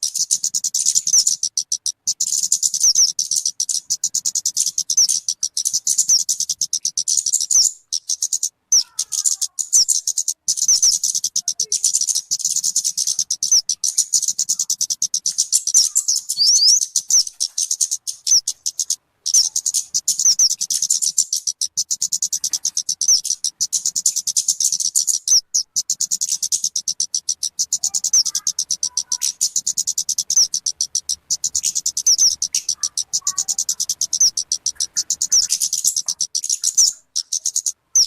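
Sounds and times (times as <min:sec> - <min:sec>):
bird chirping rapidly: 0:00.0 - 0:38.0.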